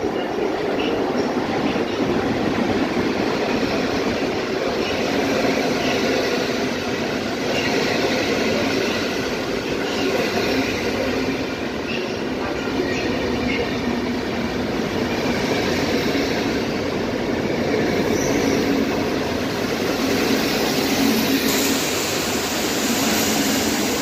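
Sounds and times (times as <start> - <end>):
train wheels running on rails: 0.0 - 24.0.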